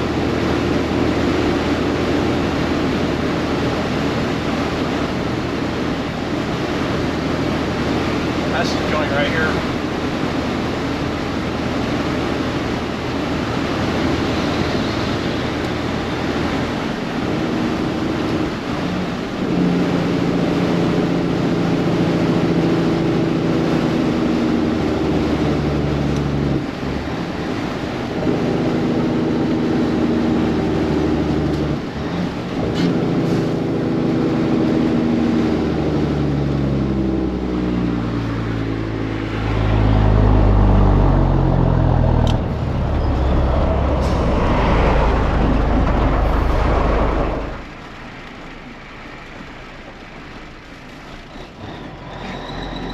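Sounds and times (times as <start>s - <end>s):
vehicle engine shifting gears: 0.0s - 52.9s.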